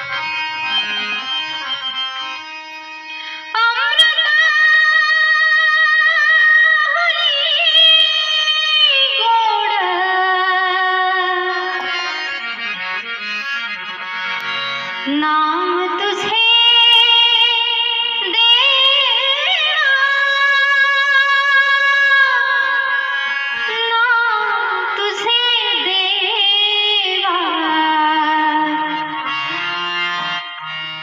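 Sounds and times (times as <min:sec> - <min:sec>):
instrumental accompaniment: 0:00.0 - 0:31.0.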